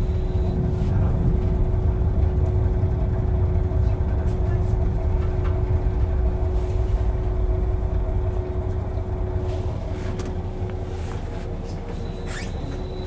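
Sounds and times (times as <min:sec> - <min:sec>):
diesel railcar idling: 0:00.0 - 0:13.0.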